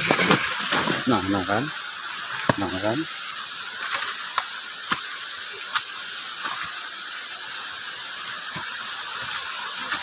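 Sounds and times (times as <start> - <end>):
waterfall rushing hiss: 0.0 - 10.0.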